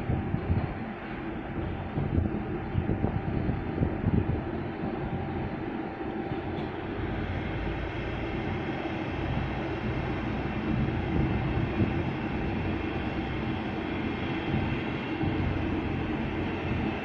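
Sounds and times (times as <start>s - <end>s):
faint steady hum: 0.0s - 17.0s
ship low rumble: 0.0s - 17.0s.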